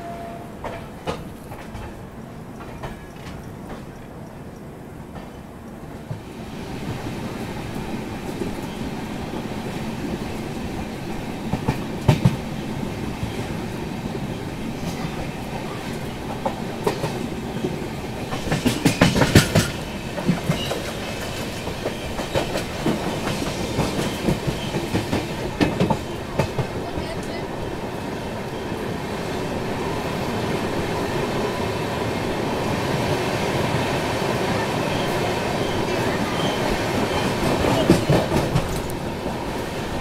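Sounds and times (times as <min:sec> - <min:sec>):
clickety-clack over rail joints: 0:00.0 - 0:28.8, 0:33.6 - 0:40.0
train wheels rumbling on rails: 0:00.0 - 0:40.0.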